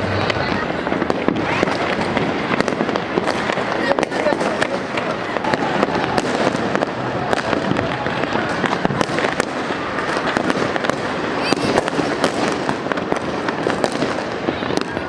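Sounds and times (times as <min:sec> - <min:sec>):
firecrackers crackling: 0:00.0 - 0:15.0
fireworks pops and bangs: 0:00.0 - 0:15.0.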